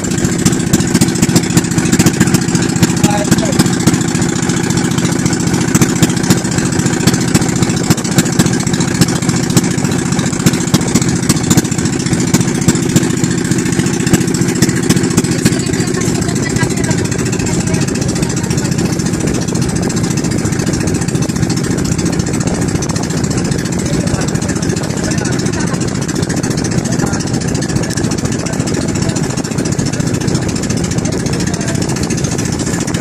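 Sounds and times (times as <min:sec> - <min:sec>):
motorboat engine drone: 0:00.0 - 0:33.0.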